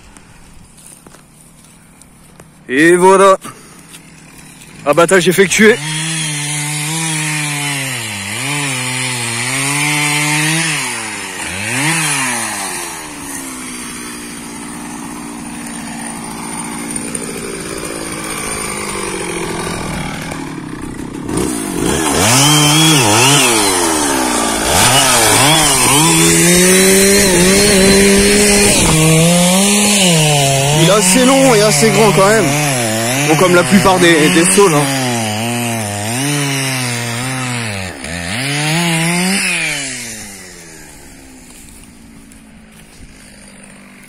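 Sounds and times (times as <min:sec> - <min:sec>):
chainsaw running at high revs: 0:00.8 - 0:44.0.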